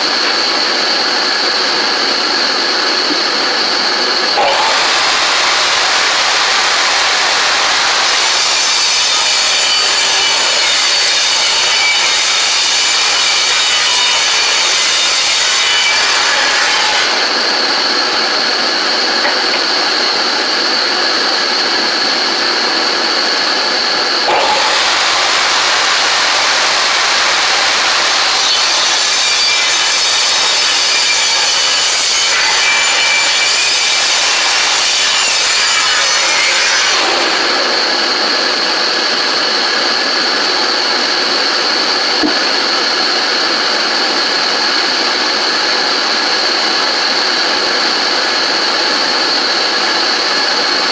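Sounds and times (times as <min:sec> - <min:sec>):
power tool cutting wood: 0:00.0 - 0:50.9
power tool high whine: 0:00.0 - 0:50.9.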